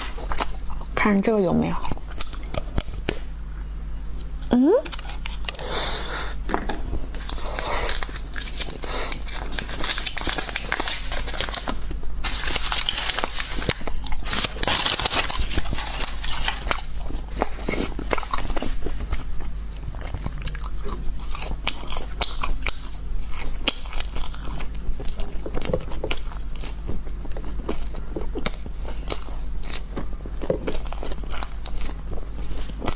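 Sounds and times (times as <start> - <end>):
crunchy food chewing: 0.0 - 32.9.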